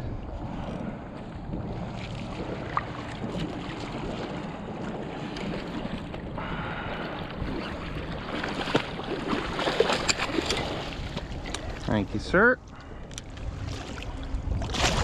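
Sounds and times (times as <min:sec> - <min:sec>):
shallow water sloshing: 0:00.0 - 0:15.0
wind buffeting microphone: 0:00.0 - 0:15.0.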